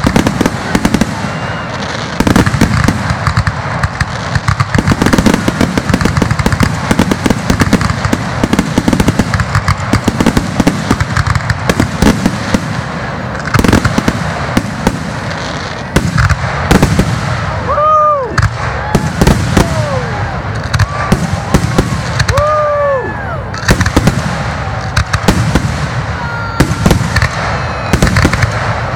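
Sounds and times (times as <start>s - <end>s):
fireworks bursting: 0.0s - 28.9s.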